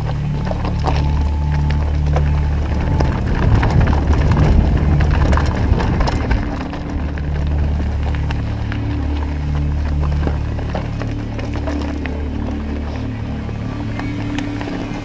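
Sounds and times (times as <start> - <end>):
background music with bass line: 0.0 - 15.0
mountain bike rattling over rocks: 0.0 - 15.0.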